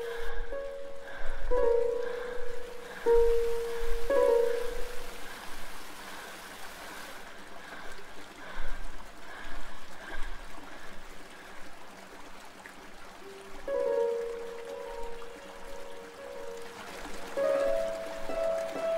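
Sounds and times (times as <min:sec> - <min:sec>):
water trickling: 0:00.0 - 0:18.9.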